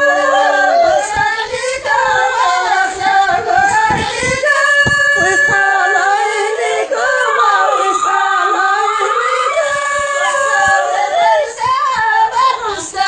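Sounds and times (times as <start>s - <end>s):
woman singing with accompaniment: 0.0s - 13.0s.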